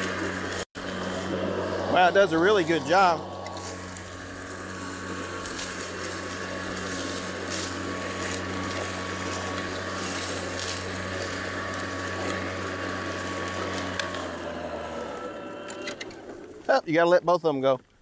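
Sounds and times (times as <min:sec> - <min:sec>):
thin high motor whine: 0:00.0 - 0:16.7
electric lawn mower running: 0:00.0 - 0:17.2.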